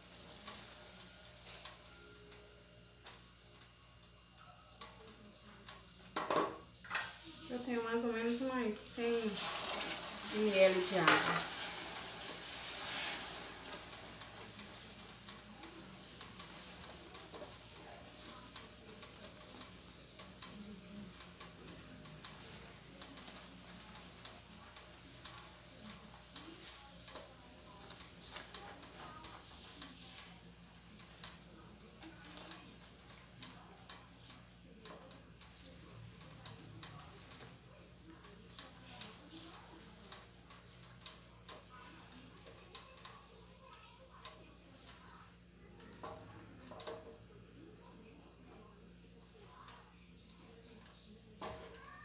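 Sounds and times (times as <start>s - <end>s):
spatula stirring and scraping: 0.0s - 1.9s, 6.8s - 50.8s
syrup bubbling in a saucepan: 0.0s - 1.9s, 8.7s - 52.0s
small ticks and crackles: 9.5s - 52.0s.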